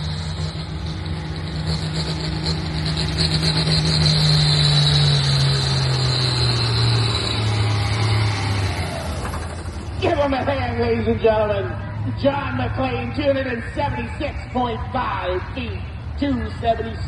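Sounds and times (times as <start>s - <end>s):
tractor diesel engine straining: 0.0s - 17.0s.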